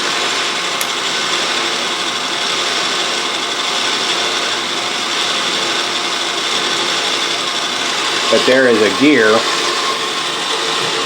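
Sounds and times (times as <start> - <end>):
lathe whirring with gear chatter: 0.0 - 11.0.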